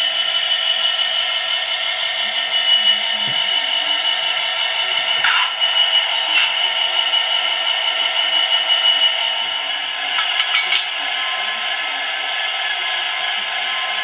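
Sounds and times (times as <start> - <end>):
diesel engine sound from small speaker: 0.0 - 14.0.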